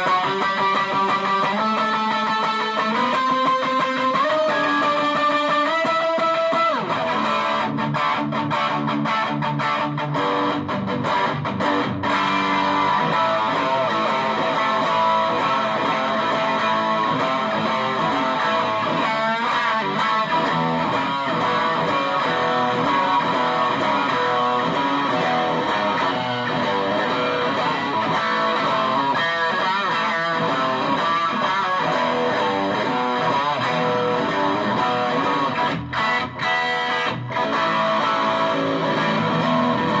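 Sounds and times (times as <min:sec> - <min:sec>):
distorted electric guitar: 0:00.0 - 0:40.0.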